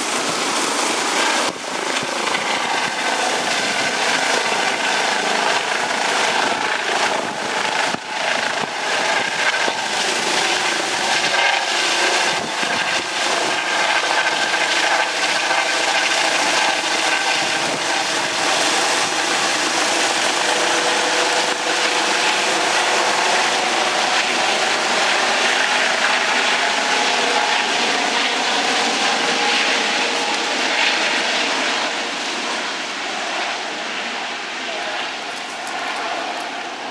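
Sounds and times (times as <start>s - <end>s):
helicopter turbine and rotor noise: 0.0s - 36.9s.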